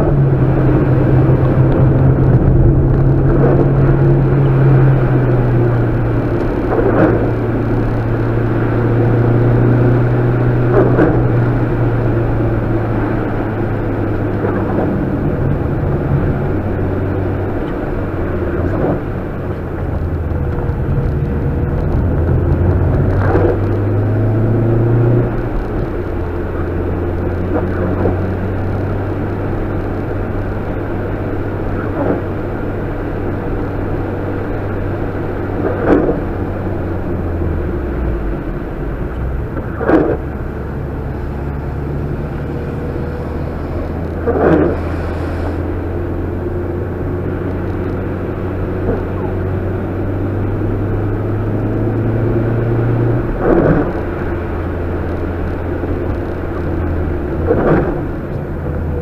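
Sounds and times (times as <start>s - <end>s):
car engine running inside cabin: 0.0s - 59.0s.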